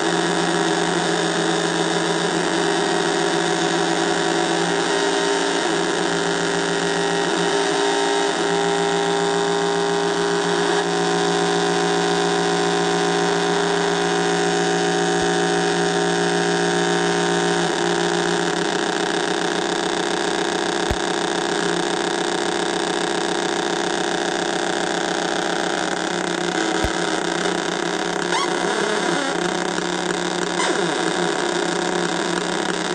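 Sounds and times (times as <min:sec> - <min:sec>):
square-wave synthesizer drone: 0:00.0 - 0:32.9.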